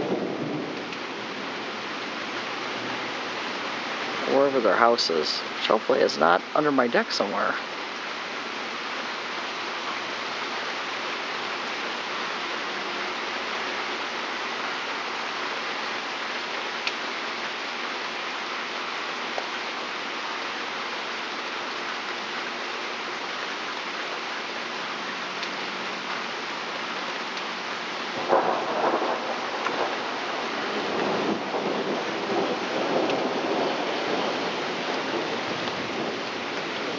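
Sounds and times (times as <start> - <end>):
rain on wooden deck: 0.0 - 36.9.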